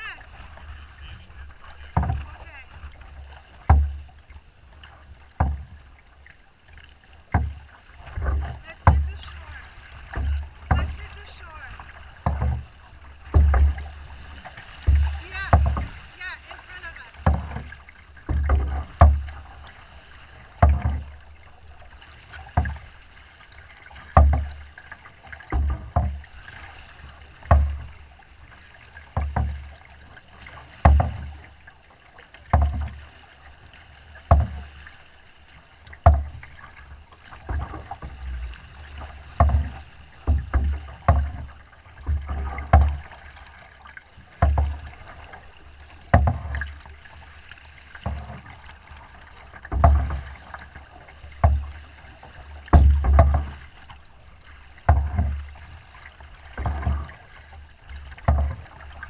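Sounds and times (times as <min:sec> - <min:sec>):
water washing: 0:00.0 - 0:59.0
waves slapping boat hull: 0:00.0 - 0:59.0.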